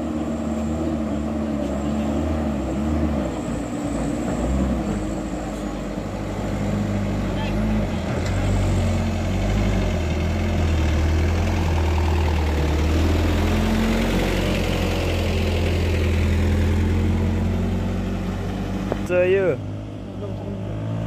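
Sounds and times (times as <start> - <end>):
diesel truck engine climbing: 0.0 - 21.0.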